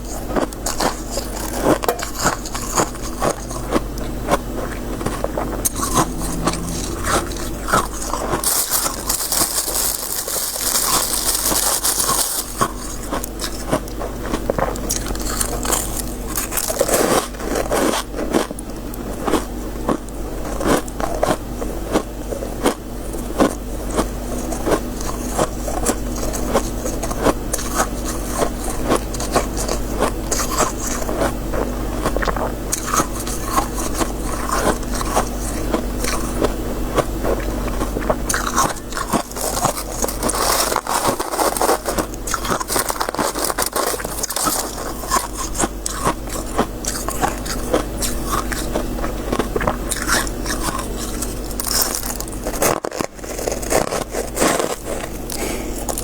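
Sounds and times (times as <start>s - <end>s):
chewing crunchy ice: 0.0s - 56.0s
low steady hum: 0.0s - 56.0s.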